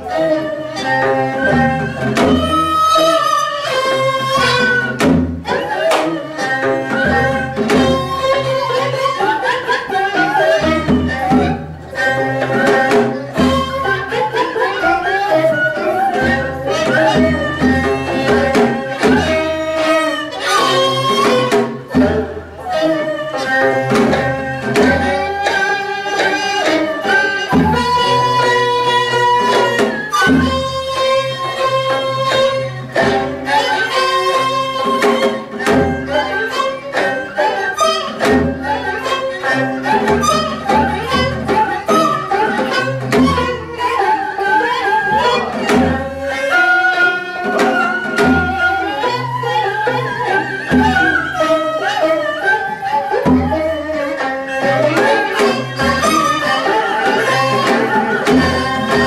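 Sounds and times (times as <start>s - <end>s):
drum strokes: 0.0s - 59.0s
wind and bowed strings melody: 0.0s - 59.0s.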